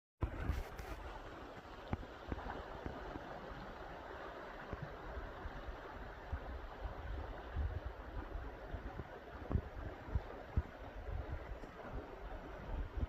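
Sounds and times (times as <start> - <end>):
stream water rushing: 0.2 - 13.0.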